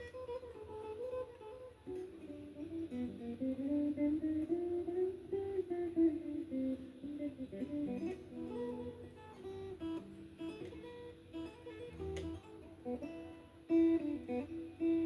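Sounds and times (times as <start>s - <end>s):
solo guitar melody: 0.0s - 15.0s.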